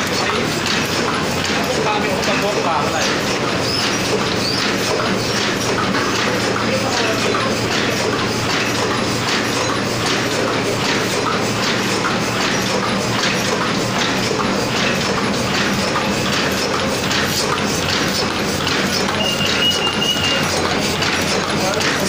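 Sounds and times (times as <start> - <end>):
machine humming and clacking: 0.0 - 22.0.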